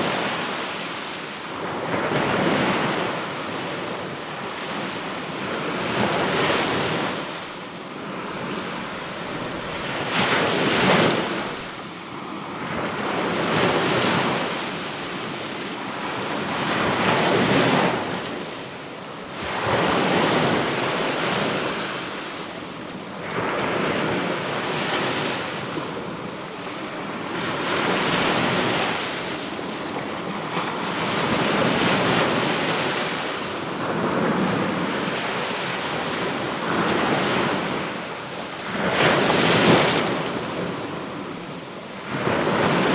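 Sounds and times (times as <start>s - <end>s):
sea waves breaking: 0.0s - 42.9s.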